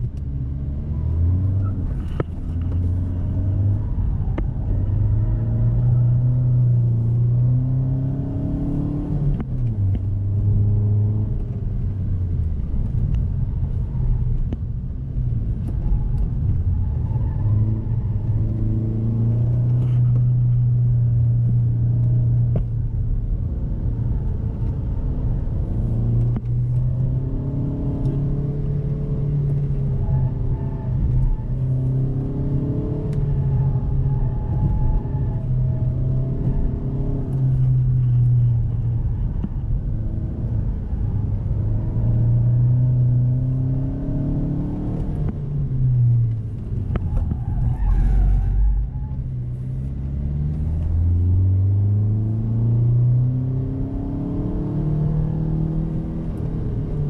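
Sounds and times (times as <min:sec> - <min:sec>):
car engine revving from cabin: 0:04.9 - 0:13.2, 0:17.6 - 0:47.3, 0:49.2 - 0:57.0.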